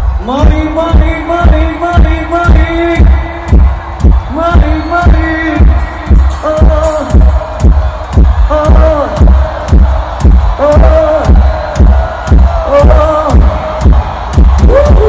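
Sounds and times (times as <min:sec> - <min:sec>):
kick drum pounding: 0:00.0 - 0:15.0.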